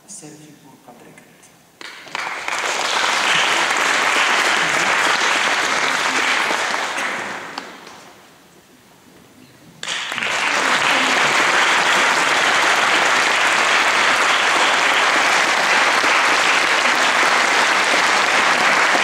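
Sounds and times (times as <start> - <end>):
audience applauding: 1.8 - 8.3, 9.8 - 19.0.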